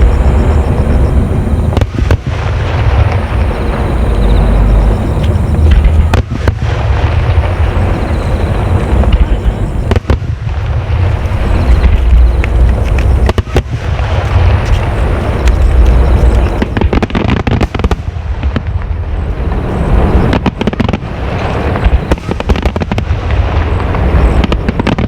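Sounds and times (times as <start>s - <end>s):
fireworks booming: 0.0s - 25.0s
sharp firework cracks: 0.0s - 25.0s.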